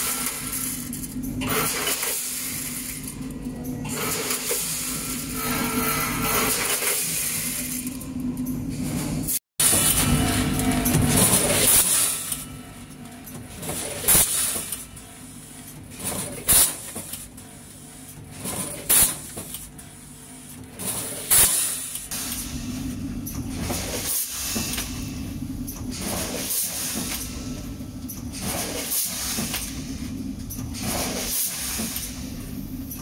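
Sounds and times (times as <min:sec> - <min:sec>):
machine mechanical hum: 0:00.0 - 0:33.0.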